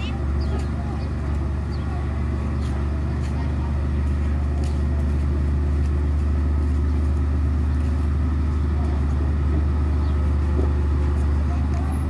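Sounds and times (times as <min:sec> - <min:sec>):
bulldozer diesel engine droning: 0:00.0 - 0:12.0.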